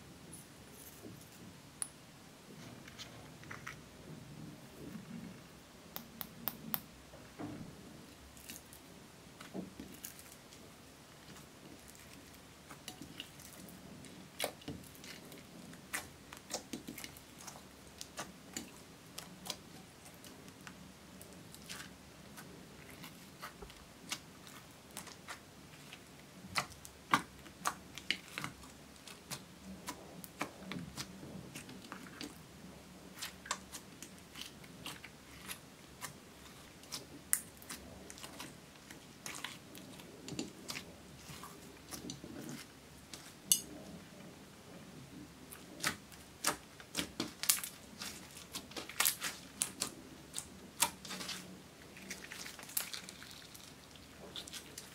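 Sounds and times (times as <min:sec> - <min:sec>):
slime squishing: 0:08.1 - 0:54.9.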